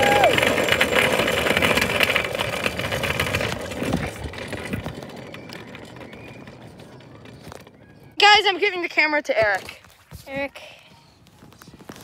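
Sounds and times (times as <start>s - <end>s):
small wheels rattling on asphalt: 0.0s - 12.0s.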